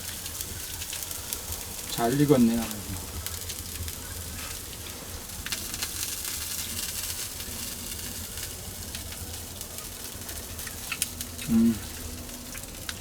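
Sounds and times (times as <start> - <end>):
fat crackling on hot coals: 0.0 - 13.0
fish sizzling on a grill: 0.0 - 13.0.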